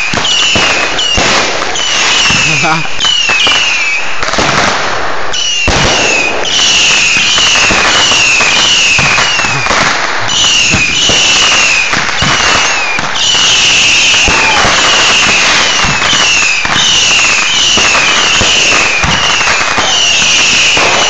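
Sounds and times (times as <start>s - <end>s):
fireworks crackling and popping: 0.0s - 21.0s
fireworks whistling: 0.0s - 21.0s.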